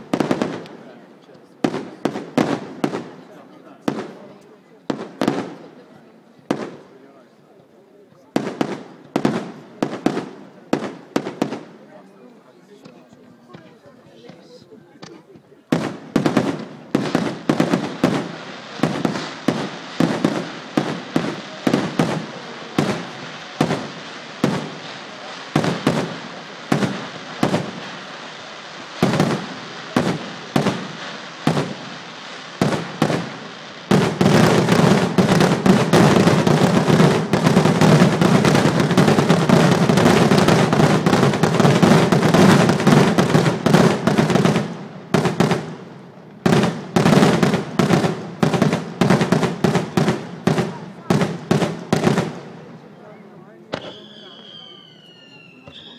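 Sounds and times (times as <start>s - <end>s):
fireworks banging: 0.0s - 7.0s, 8.2s - 55.9s.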